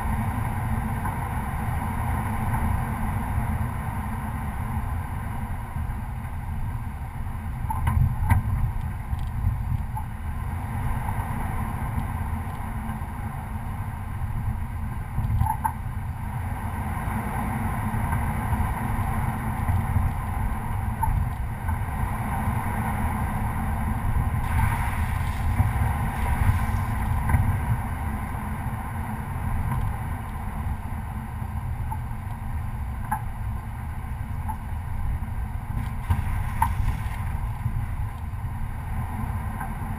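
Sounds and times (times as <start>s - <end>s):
truck engine rumbling: 0.0s - 39.9s.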